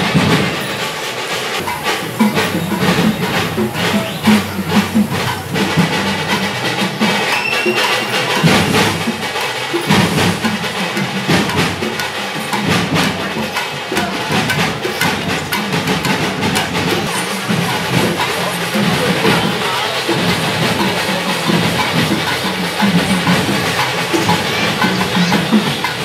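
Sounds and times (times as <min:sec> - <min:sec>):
percussion band drumming: 0:00.0 - 0:26.0.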